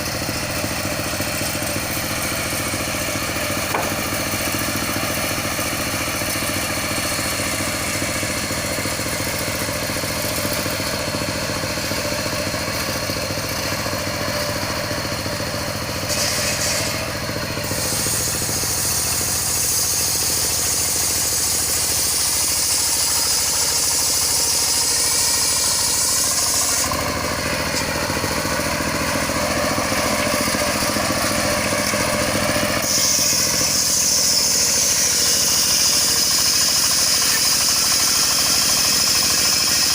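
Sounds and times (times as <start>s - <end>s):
saw blade cutting log: 0.0s - 39.9s
sawmill engine running: 0.0s - 39.9s.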